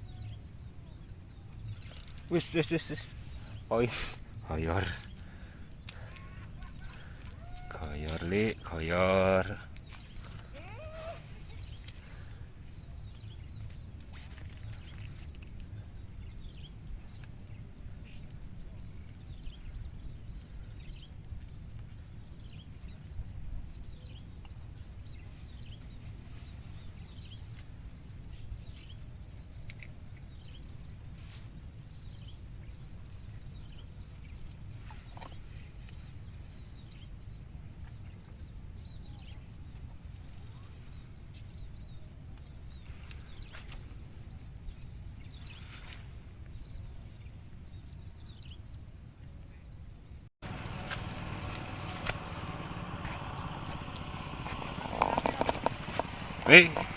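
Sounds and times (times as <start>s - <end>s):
insects droning: 0.0s - 56.9s.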